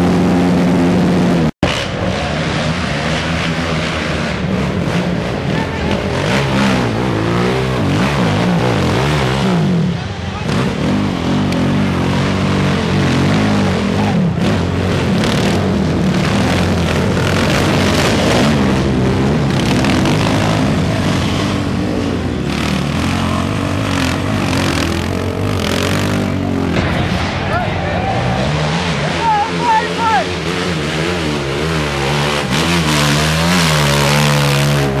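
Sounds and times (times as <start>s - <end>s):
quad engine revving: 0.0s - 27.0s, 28.2s - 35.0s.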